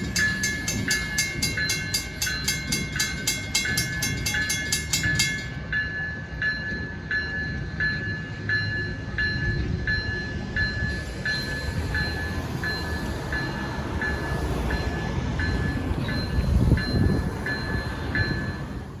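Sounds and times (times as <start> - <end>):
passing train rumble: 0.0 - 19.0
railroad crossing bell ringing: 0.0 - 19.0.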